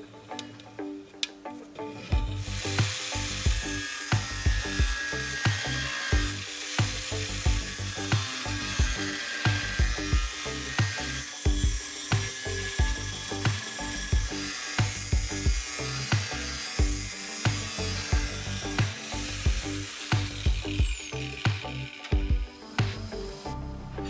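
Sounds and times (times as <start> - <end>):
background music with steady beat: 0.0 - 24.0
angle grinder cutting steel: 2.0 - 23.6.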